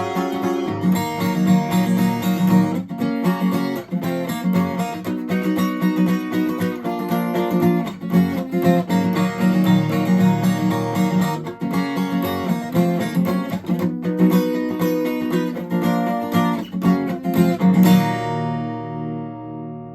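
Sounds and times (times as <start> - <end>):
acoustic guitar strumming chords: 0.0 - 19.9.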